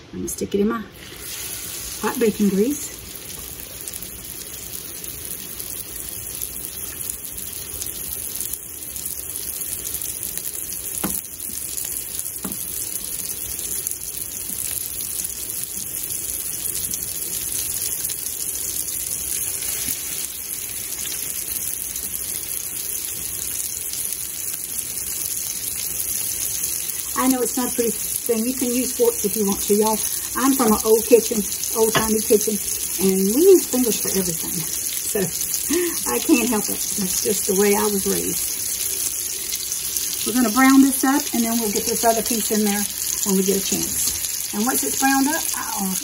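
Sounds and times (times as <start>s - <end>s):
steak sizzling in grease: 1.0s - 46.0s.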